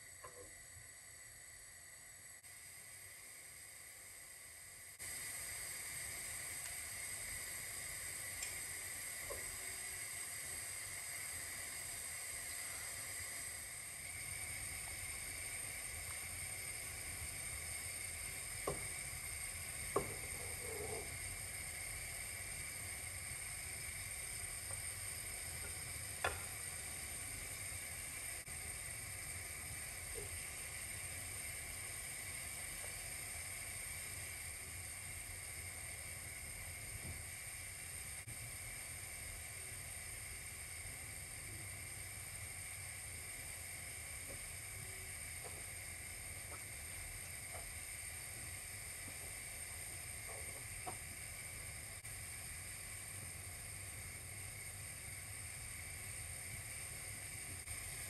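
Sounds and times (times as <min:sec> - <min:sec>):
milk sizzling in a pot: 0:00.0 - 0:58.0.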